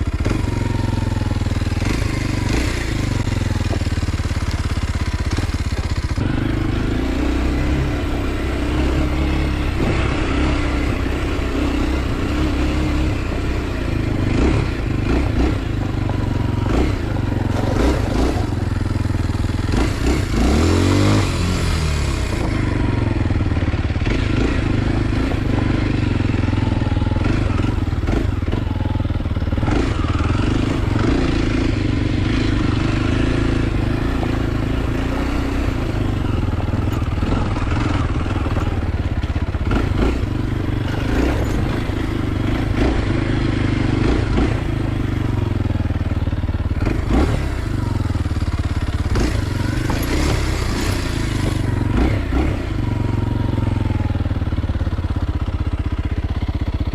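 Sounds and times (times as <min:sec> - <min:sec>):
motorcycle engine running steadily: 0:00.0 - 0:56.9.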